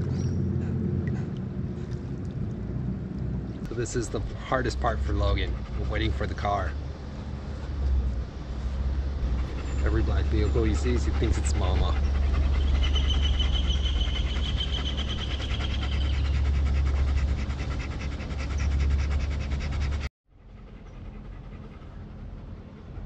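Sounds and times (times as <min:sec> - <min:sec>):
low rumble: 0:00.0 - 0:23.0
dog panting: 0:03.7 - 0:23.0.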